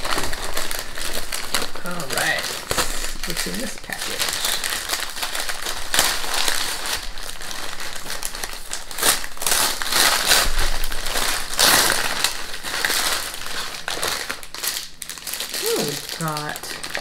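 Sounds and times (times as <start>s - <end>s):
paper wrapping crinkling: 0.0s - 17.0s.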